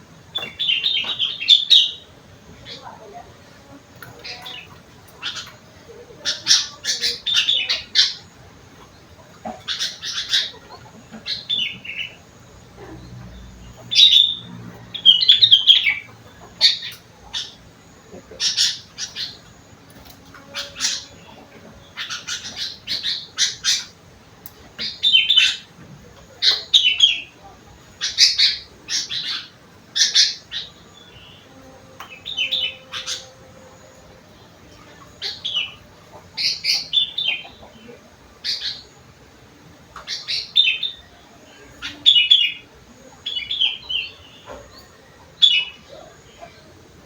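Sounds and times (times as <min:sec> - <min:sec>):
bulbul singing: 0:00.0 - 0:47.0.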